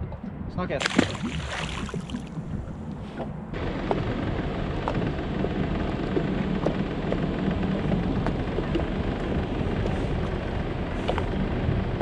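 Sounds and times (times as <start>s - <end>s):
boat engine running: 0.8s - 12.0s.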